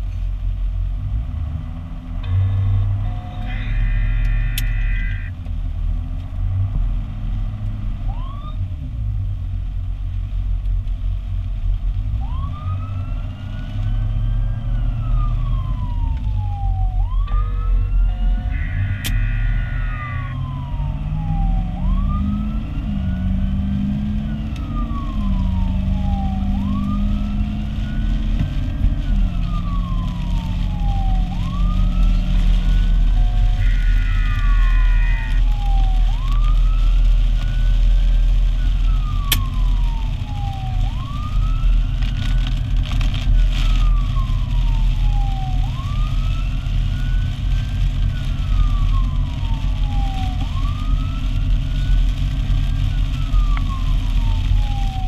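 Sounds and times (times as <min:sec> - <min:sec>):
road noise: 0:00.0 - 0:55.0
truck engine drone: 0:00.0 - 0:55.0
steady siren tone: 0:02.2 - 0:05.3, 0:08.0 - 0:08.6, 0:12.2 - 0:55.0
siren wailing: 0:02.3 - 0:05.3, 0:08.0 - 0:08.6, 0:12.2 - 0:55.0.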